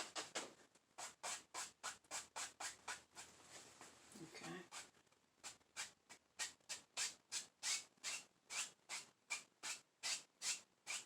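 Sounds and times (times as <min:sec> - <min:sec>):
brush rubbing on canvas: 0:01.0 - 0:10.6.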